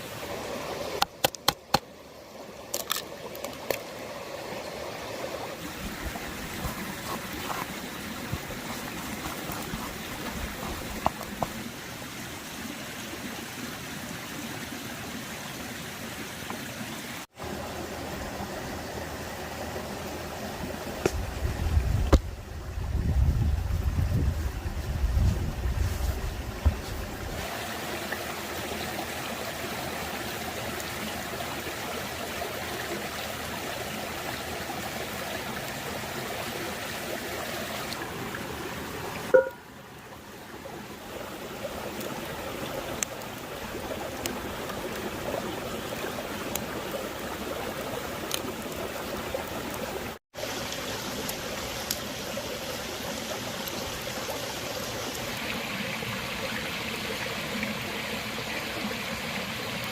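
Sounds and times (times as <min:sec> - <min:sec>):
rushing running water: 0:00.0 - 0:59.9.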